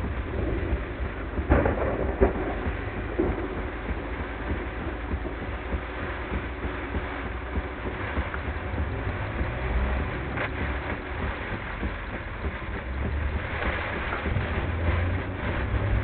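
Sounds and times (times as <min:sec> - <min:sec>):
heavy rain and road spray: 0:00.0 - 0:16.0
low rumble: 0:00.0 - 0:16.0.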